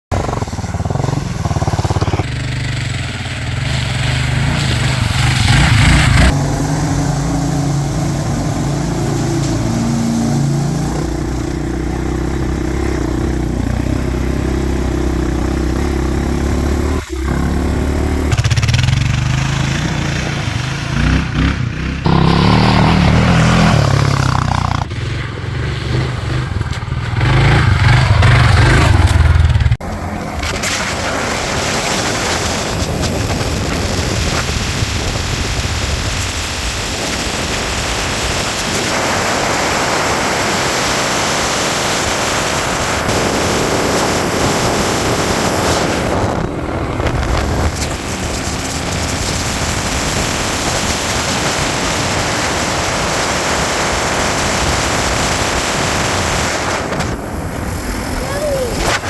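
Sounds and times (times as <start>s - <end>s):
off-road vehicle engine running: 0.0s - 59.0s
road and wind rumble: 0.1s - 59.0s.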